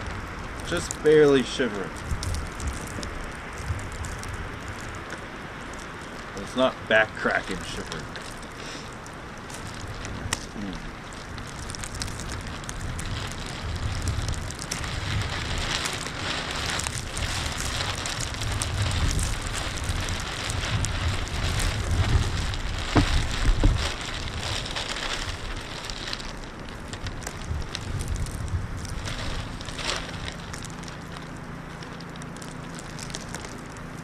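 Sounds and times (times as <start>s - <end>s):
wind buffeting microphone: 0.0s - 32.0s
steady hiss with crackles: 0.0s - 34.0s.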